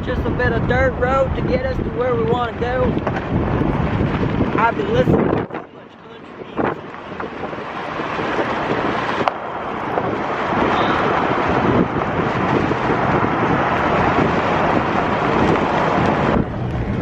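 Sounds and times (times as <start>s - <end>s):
tyre and road noise: 0.0s - 17.0s
wind: 0.0s - 17.0s.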